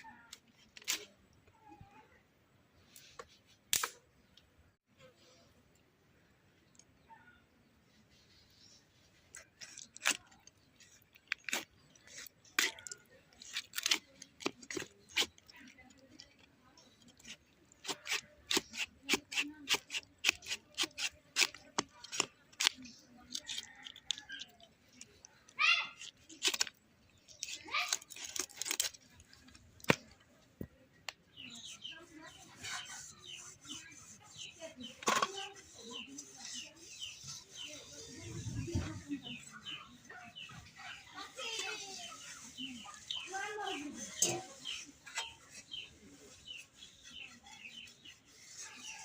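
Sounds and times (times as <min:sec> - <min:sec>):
sharp clicks and scrapes: 0:00.0 - 0:01.2, 0:02.9 - 0:04.5, 0:09.1 - 0:49.0
small birds chirping: 0:00.0 - 0:49.0.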